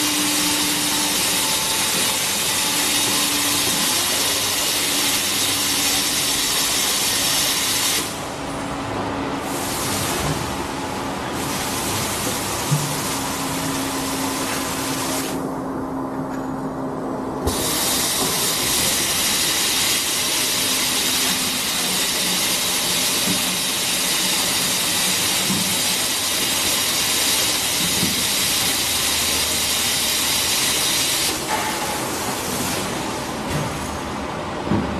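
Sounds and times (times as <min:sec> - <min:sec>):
oil-filling machine hissing: 0:00.0 - 0:08.2, 0:11.3 - 0:15.4, 0:17.4 - 0:33.2.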